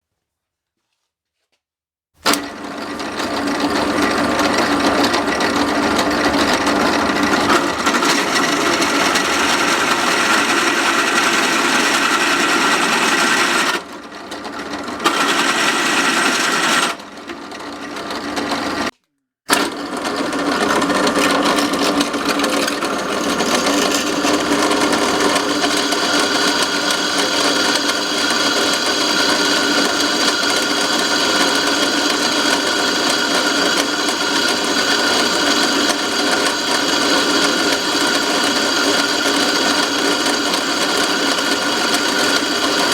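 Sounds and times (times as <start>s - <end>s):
drill press drilling steel: 2.2s - 18.9s, 19.5s - 42.9s.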